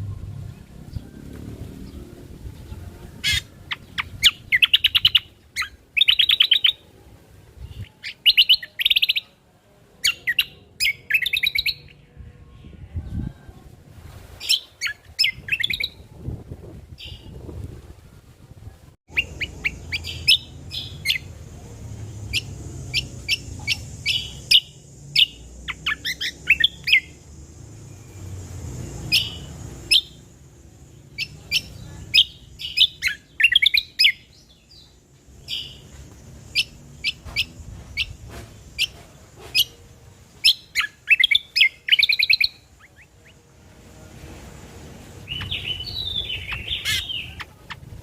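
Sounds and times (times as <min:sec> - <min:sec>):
songbird chirping and warbling: 0:00.0 - 0:48.0.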